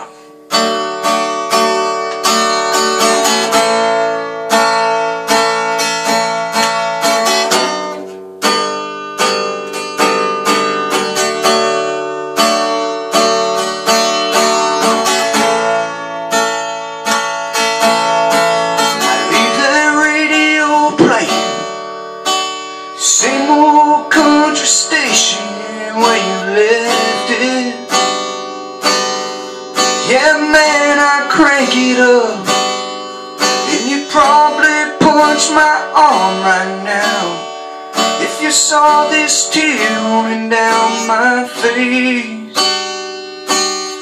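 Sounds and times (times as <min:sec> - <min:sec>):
acoustic guitar strumming: 0:00.0 - 0:44.0
person singing country song: 0:00.0 - 0:44.0.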